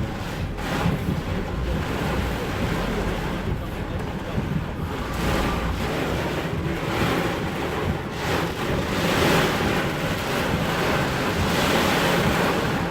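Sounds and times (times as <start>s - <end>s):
heavy rain: 0.0s - 12.9s.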